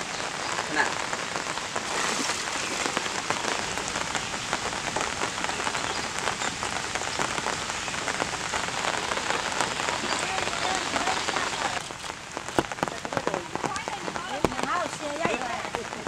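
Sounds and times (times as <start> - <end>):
raindrops ticking: 0.0 - 16.0
steady rain hissing: 0.0 - 16.0.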